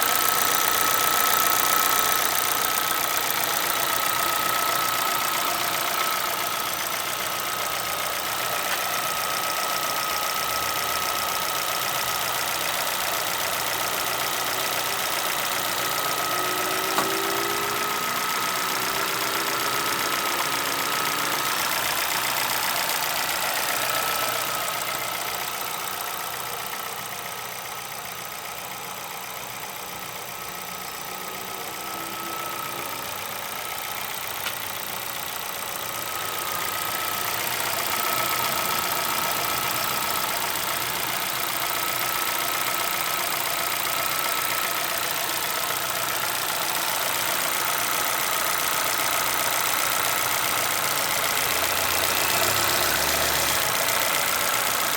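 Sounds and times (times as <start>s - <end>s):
unusual mechanical noise: 0.0s - 26.7s, 30.1s - 54.9s
car engine running with whine: 0.0s - 54.9s.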